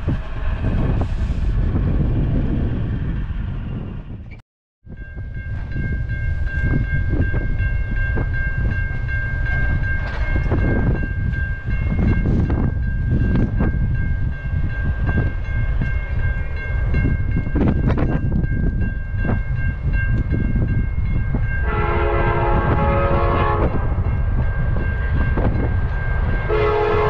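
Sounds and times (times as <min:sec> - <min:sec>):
level crossing warning bell: 0:04.9 - 0:27.0.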